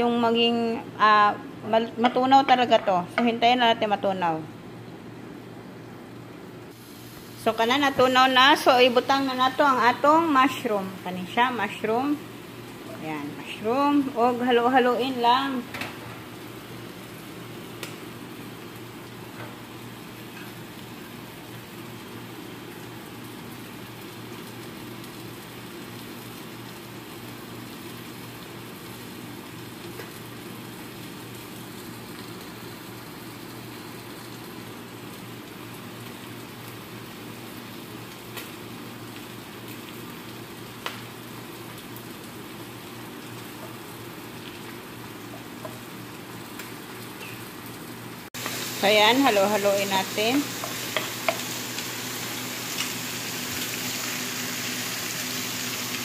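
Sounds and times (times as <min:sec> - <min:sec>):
mushrooms sizzling in butter: 0:06.7 - 0:56.0.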